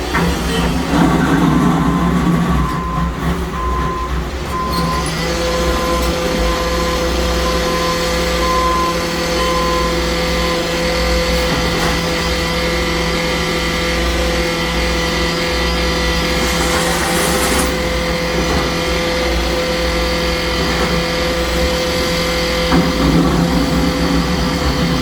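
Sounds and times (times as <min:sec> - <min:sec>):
heavy machinery engine running: 0:00.0 - 0:25.0.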